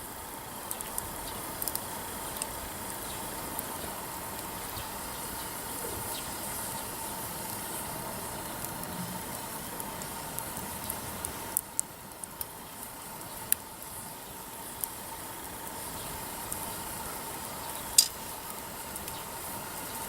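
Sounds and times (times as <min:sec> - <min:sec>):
campfire hissing: 0:00.0 - 0:20.0
firewood crackling and popping: 0:00.0 - 0:20.0.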